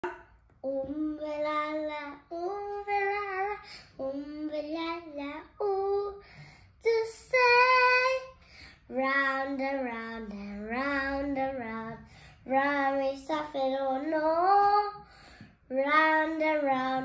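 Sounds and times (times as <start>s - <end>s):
girl singing: 0.0s - 17.0s.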